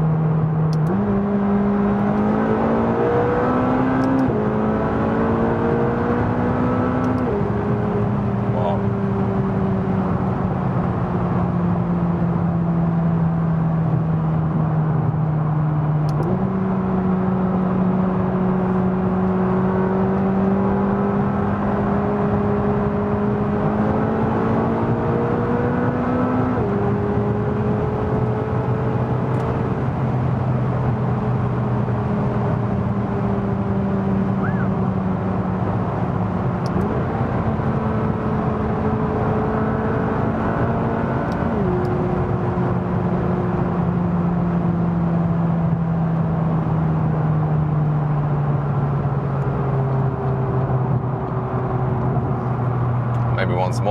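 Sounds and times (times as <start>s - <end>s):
car engine droning: 0.0s - 53.9s
road noise: 0.0s - 53.9s.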